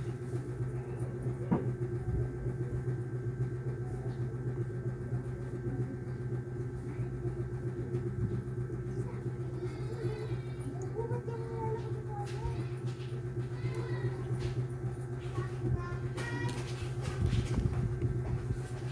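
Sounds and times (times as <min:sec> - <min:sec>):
low motor hum: 0:00.0 - 0:18.9.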